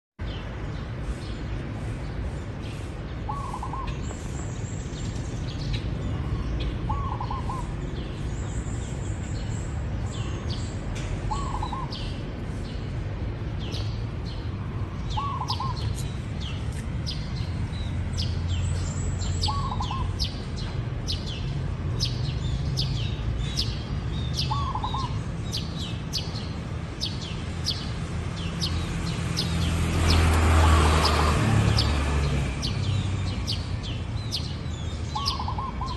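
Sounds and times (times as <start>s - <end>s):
small birds chirping: 0.2s - 35.9s.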